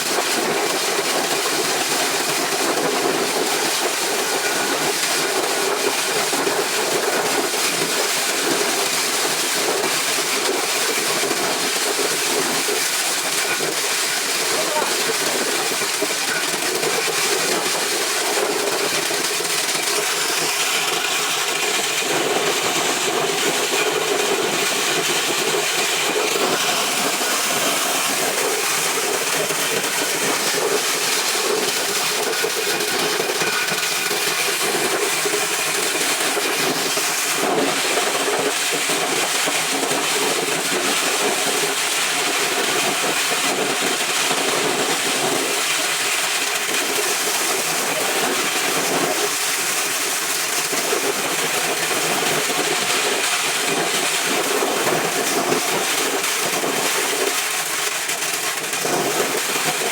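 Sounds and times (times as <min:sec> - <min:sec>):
corn-shelling machine running: 0:00.0 - 0:59.9.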